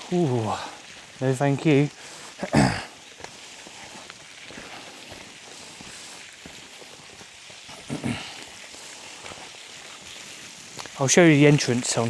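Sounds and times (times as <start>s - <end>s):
footsteps on stony ground: 0.0s - 12.0s
steady outdoor hiss: 0.0s - 12.0s.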